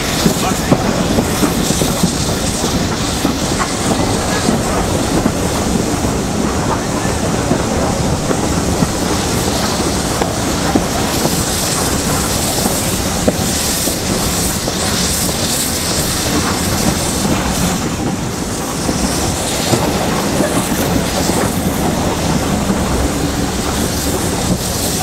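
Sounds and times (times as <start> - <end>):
train rumbling on rails: 0.0 - 25.0
wheels clickety-clack over track: 0.0 - 25.0.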